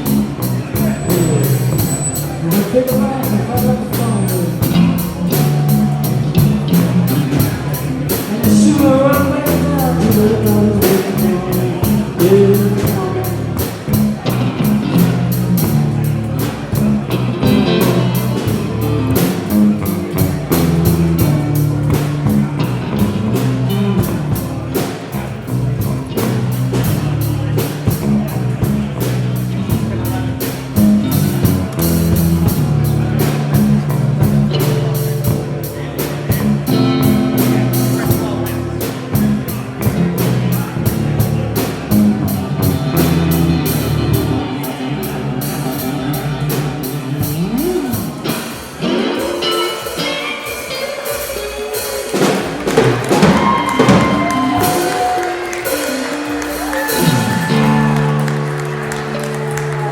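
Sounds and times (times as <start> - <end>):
bending guitar melody line: 0.0 - 59.9
rock band playing: 0.0 - 59.9.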